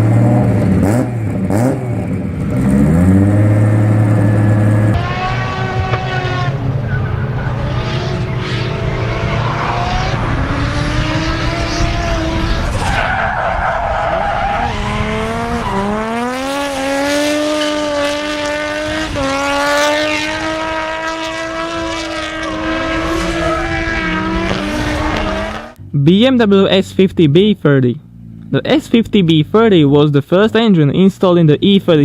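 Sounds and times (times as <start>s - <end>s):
turbocharged engine pulling hard: 0.0s - 32.0s.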